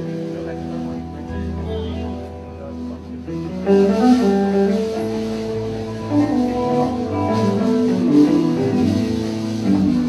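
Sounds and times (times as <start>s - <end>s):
electric guitar: 0.0s - 10.0s
live rock band playing: 0.0s - 10.0s
low bass notes: 0.0s - 10.0s.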